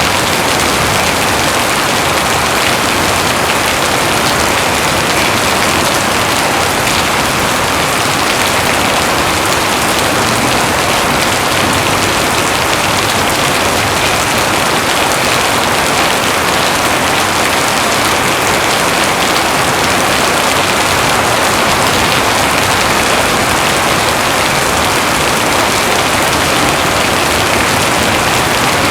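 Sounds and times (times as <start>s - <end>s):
heavy rain on surfaces: 0.0s - 28.9s.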